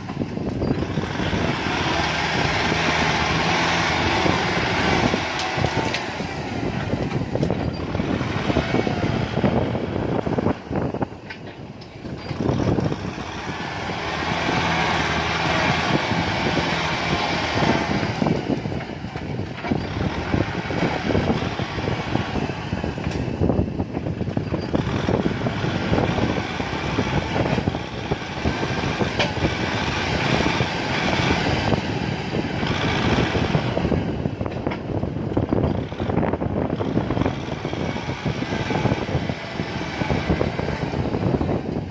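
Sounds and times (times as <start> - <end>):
crackling clatter: 0.0 - 41.8
tractor diesel engine under load: 0.0 - 41.9.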